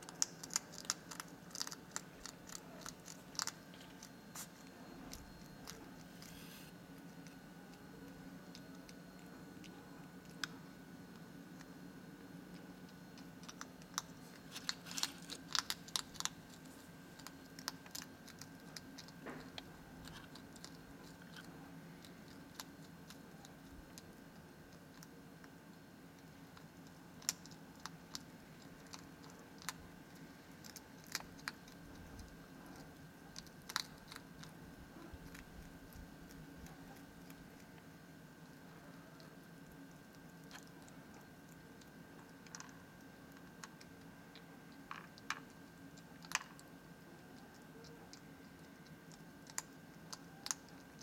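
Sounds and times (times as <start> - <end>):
faint steady hum: 0.0 - 51.0
hedgehog crunching dry kibble: 0.0 - 51.0.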